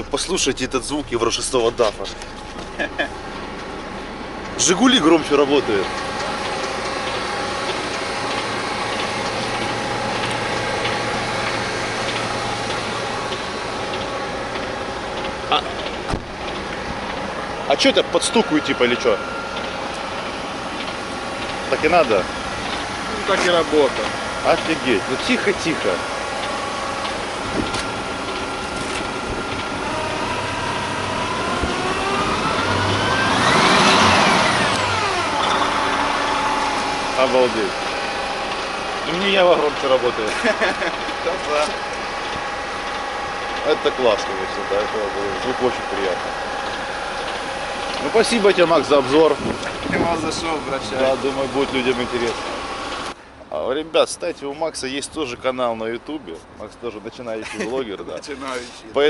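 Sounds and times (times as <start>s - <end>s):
light regular engine ticking: 0.0s - 59.0s
truck diesel engine idling: 0.0s - 59.0s.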